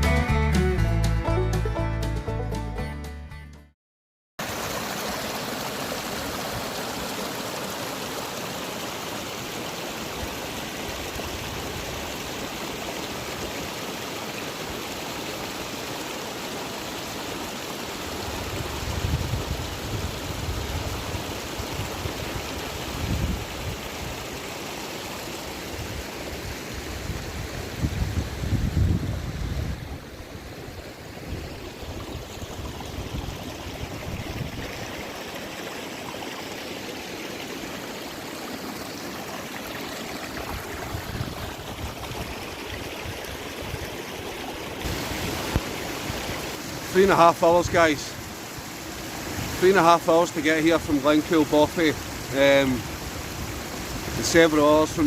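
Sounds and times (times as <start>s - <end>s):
water rushing: 4.4s - 55.0s.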